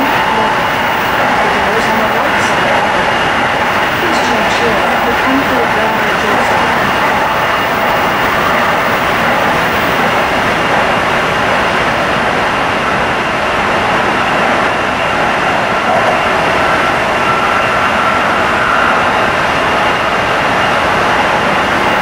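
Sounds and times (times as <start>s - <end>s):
faint steady whine: 0.0s - 22.0s
train running noise: 0.0s - 22.0s.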